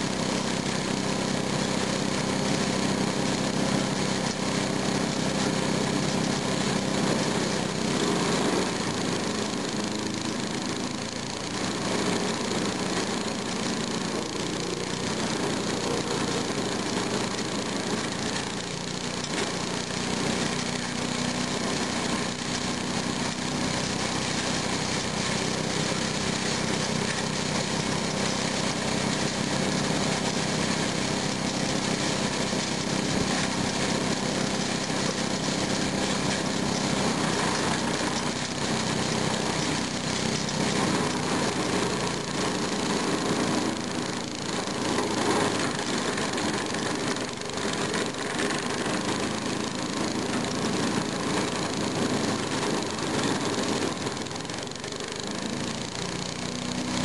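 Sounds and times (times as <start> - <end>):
chipper shredder engine running: 0.0 - 57.0.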